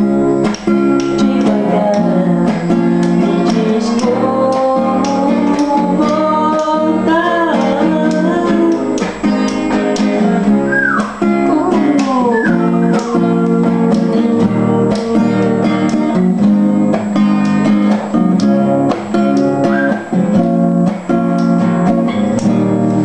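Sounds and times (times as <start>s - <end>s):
acoustic guitar strumming chords: 0.0s - 23.0s
sliding high guitar notes: 0.0s - 23.0s.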